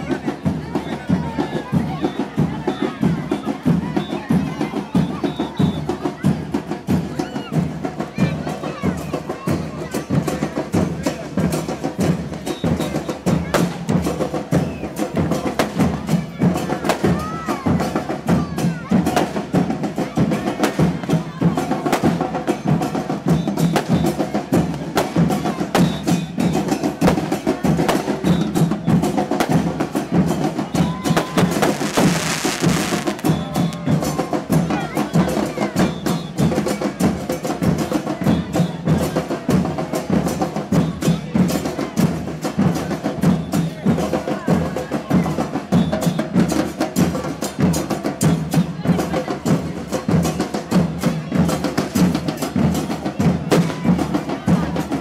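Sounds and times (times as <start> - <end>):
drum troupe playing fast rhythm: 0.0 - 55.0
voices: 0.0 - 55.0.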